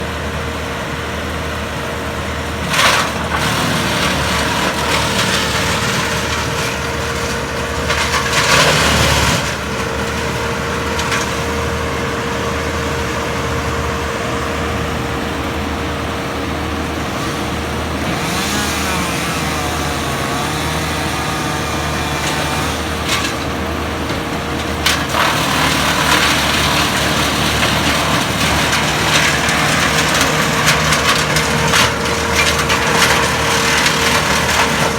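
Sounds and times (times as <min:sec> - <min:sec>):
wood chipper engine running: 0:00.0 - 0:34.9.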